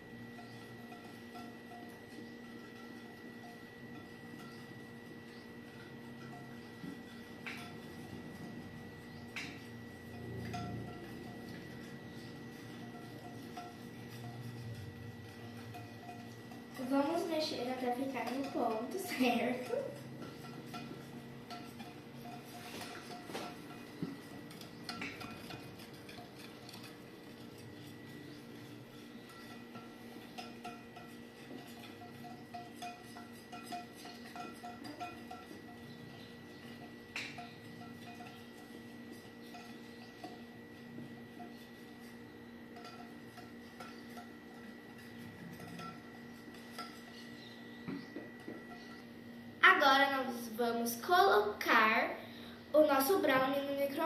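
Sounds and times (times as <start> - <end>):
spoon stirring thick batter: 0.0 - 49.4
steady low hum: 0.0 - 54.0
spoon clinking against bowl: 0.3 - 49.1.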